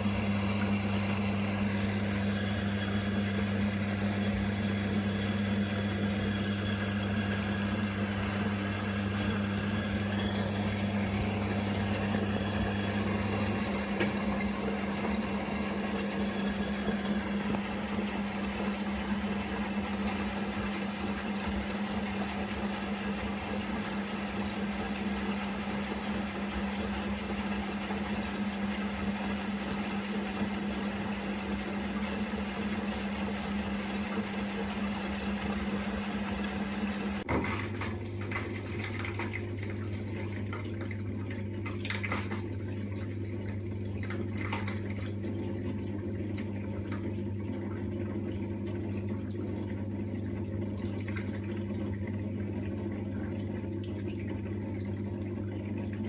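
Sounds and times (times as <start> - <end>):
washing machine motor hum: 0.0 - 56.0
water sounds: 0.0 - 56.0.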